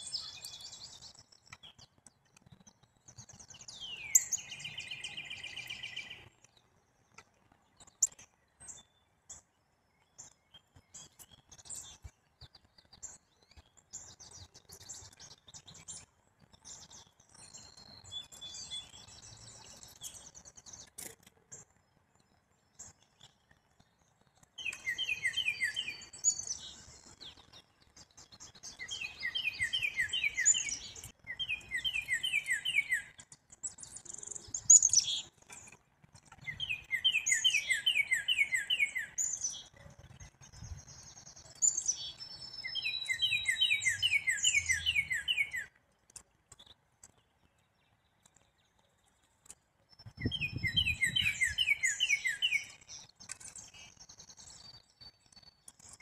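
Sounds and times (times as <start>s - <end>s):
small songbirds calling: 0.0s - 56.0s.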